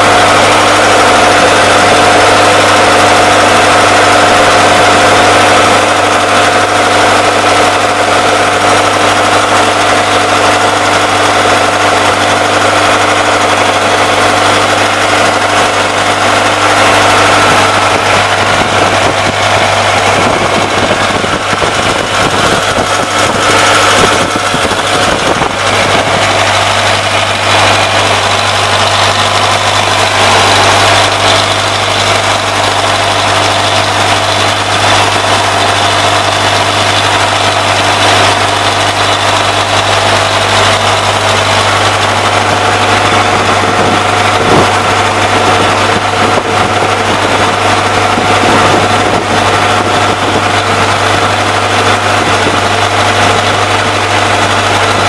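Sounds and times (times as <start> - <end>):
generator engine running steadily: 0.0 - 55.0.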